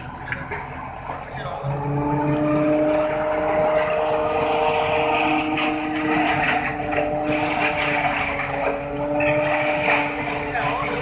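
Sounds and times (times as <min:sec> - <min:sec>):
harvester machine whine: 0:00.0 - 0:11.0
tractor engine running: 0:00.0 - 0:11.0
rushing of cut grass: 0:01.0 - 0:11.0.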